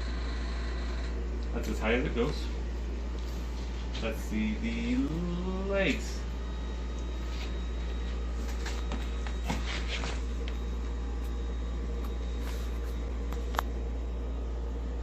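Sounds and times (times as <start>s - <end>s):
bed electric motor humming: 0.0s - 15.0s.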